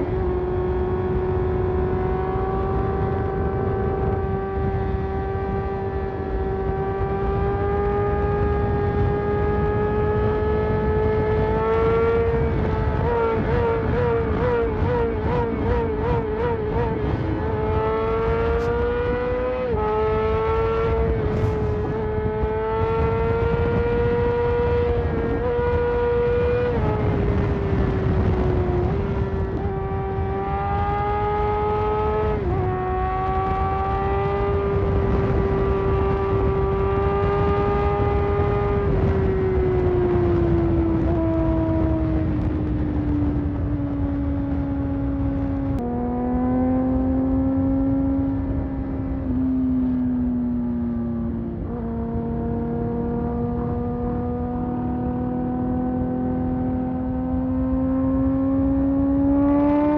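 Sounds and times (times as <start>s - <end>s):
road noise: 0.0s - 59.9s
wind noise: 0.0s - 59.9s
motorcycle engine running: 0.1s - 59.9s.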